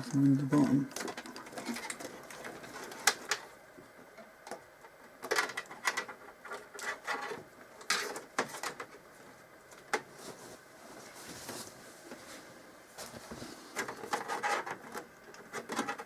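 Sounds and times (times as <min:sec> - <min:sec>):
cables clicking and rustling: 0:00.0 - 0:10.6, 0:13.0 - 0:16.0.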